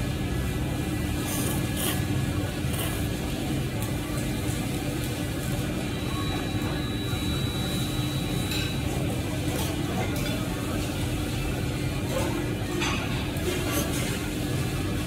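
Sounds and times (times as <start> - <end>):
restaurant background rumble: 0.0 - 15.0.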